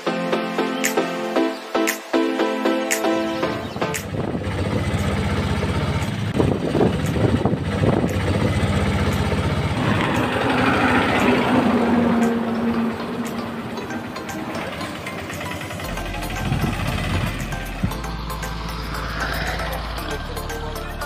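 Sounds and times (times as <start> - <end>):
road noise: 3.0 - 21.0
small engine idling: 4.0 - 21.0.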